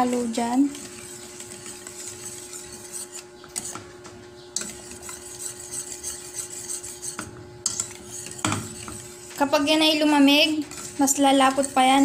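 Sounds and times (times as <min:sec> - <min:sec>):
utensil stirring thick sauce in pan: 0:00.0 - 0:03.9, 0:04.6 - 0:12.0.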